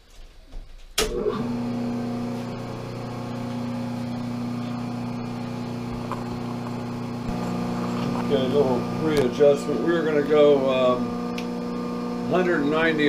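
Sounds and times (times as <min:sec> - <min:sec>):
lathe motor humming: 0:01.1 - 0:13.0.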